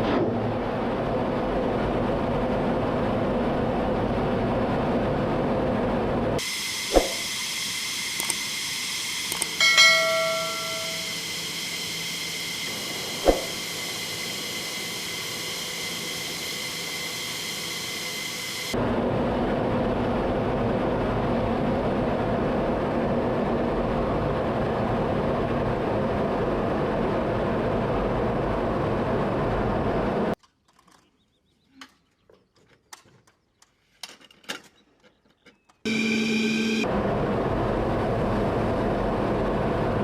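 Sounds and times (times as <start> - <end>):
jet engine whine and roar: 0.0 - 30.4, 35.9 - 40.0.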